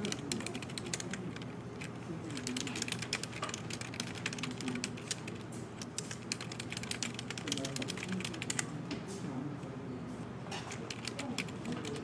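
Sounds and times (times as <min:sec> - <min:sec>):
fast keyboard typing: 0:00.0 - 0:08.7, 0:10.7 - 0:12.0.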